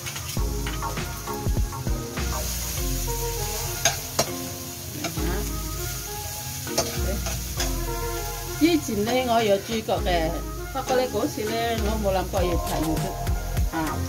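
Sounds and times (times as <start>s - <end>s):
garlic and onion sizzling in oil: 0.0s - 14.0s.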